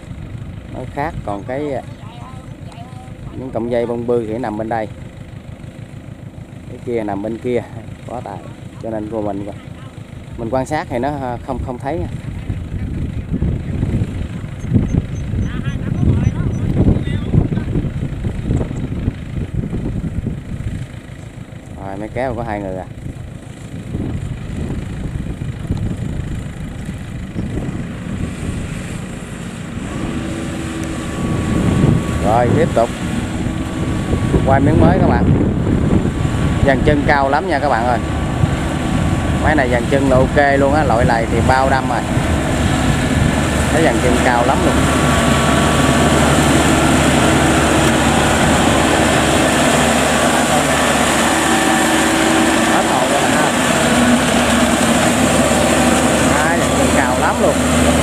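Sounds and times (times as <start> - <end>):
harvesting machinery engines running: 0.0 - 58.0.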